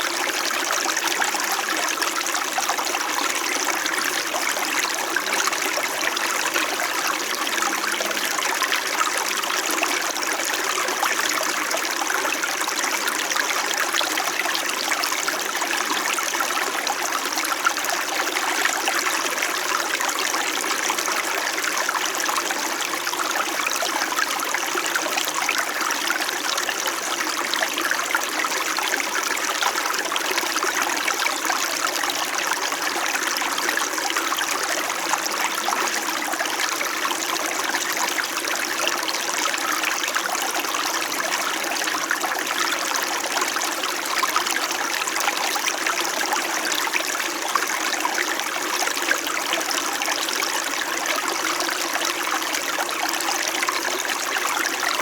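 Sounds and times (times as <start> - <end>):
stream trickling over rocks: 0.0 - 55.0.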